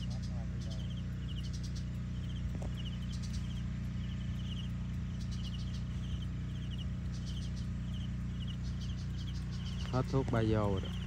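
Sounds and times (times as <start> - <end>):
distant drone rotors humming: 0.0 - 11.0
insect trills: 0.0 - 11.0.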